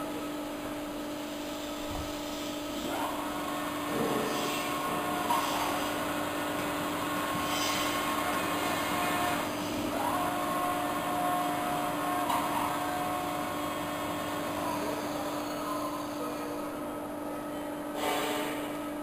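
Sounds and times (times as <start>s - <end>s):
shredder humming and whining: 0.0s - 19.0s.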